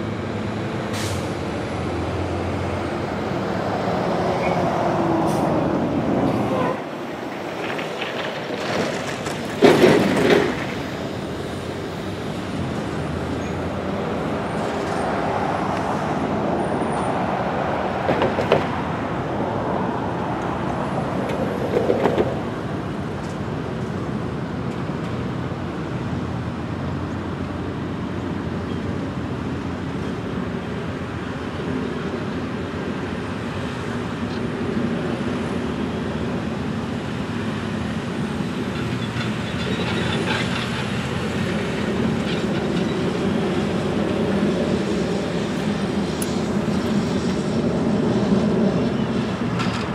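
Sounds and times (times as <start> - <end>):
cars passing by: 0.0 - 49.9
steady traffic rumble: 0.0 - 49.9.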